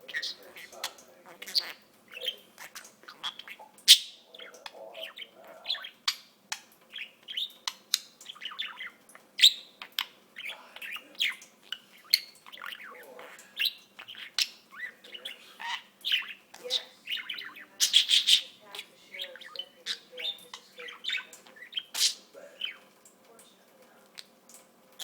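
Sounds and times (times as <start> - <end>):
budgerigar chattering and warbling: 0.0 - 22.9.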